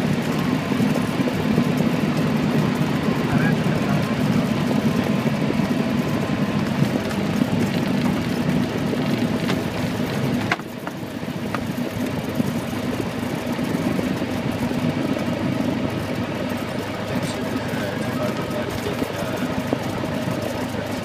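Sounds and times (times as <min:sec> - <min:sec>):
piston aircraft engine running: 0:00.0 - 0:21.0.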